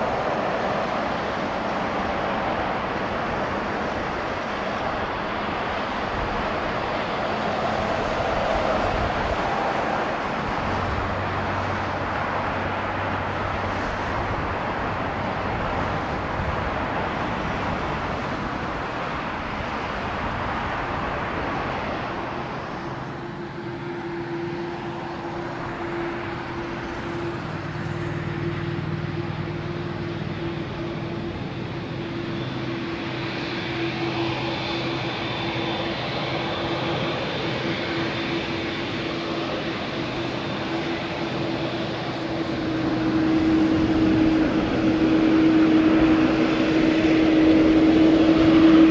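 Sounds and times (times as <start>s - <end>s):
high whine: 0.0s - 48.9s
jet engines rushing: 0.0s - 48.9s.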